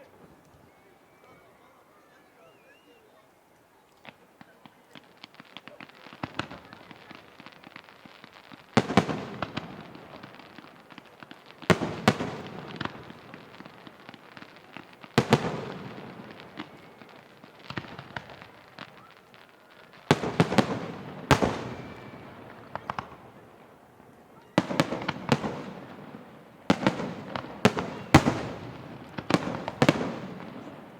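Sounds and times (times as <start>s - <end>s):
firework pops and crackles: 3.9s - 30.9s
firework shells booming: 4.9s - 23.8s, 24.6s - 30.9s.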